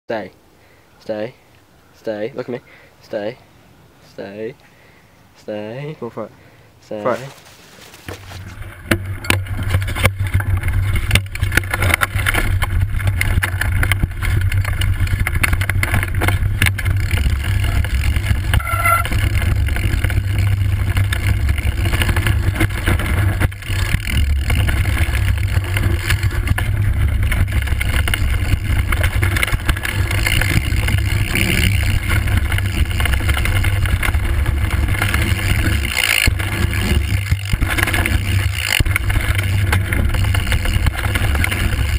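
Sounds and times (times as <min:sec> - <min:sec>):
bike tyre noise: 0:07.0 - 0:41.9
bike knocks and rattles: 0:07.1 - 0:41.9.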